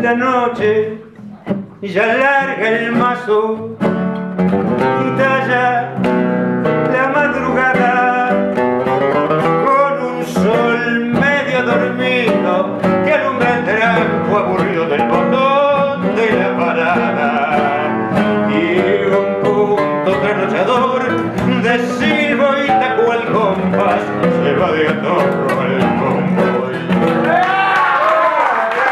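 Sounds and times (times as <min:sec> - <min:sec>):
man singing: 0:00.0 - 0:04.1, 0:04.7 - 0:27.3
acoustic guitars playing tango: 0:00.0 - 0:27.8.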